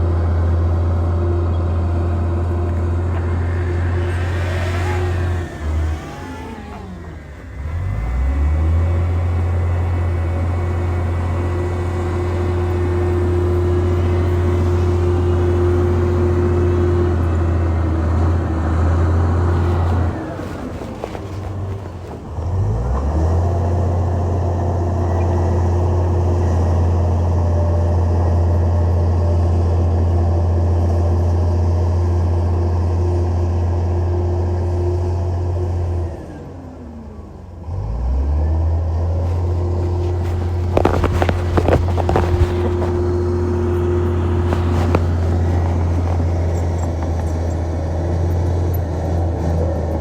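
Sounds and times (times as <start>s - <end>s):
diesel engine revving: 0.0s - 27.6s, 33.8s - 50.0s.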